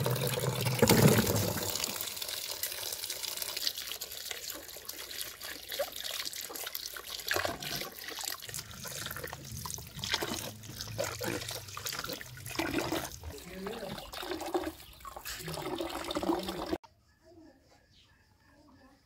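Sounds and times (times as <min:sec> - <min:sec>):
small water splashes: 0:00.0 - 0:16.8
water running from a tap: 0:00.0 - 0:16.8.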